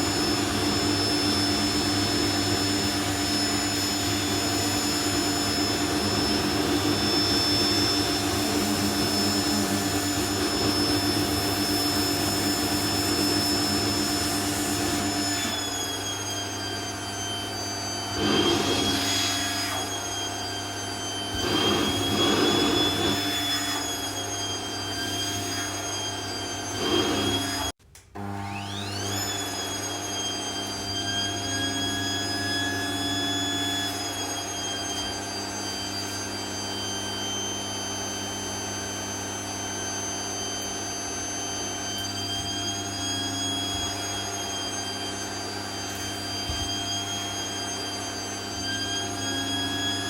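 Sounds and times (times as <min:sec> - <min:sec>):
vacuum cleaner running: 0:00.0 - 0:50.0.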